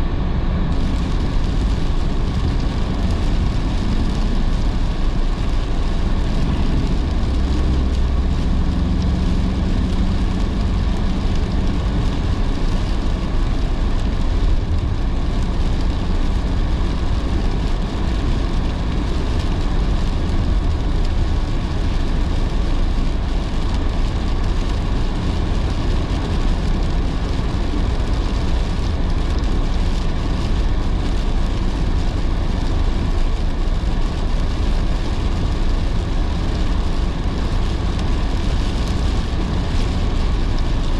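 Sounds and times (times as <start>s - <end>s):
rain on car: 0.0s - 40.9s
tyre and road noise: 0.0s - 40.9s.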